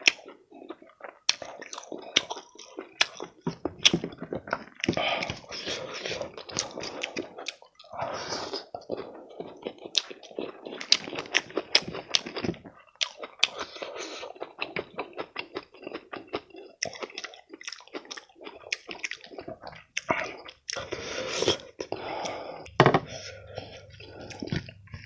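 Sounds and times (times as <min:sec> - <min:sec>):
person chewing with wet clicks: 0:00.0 - 0:25.0.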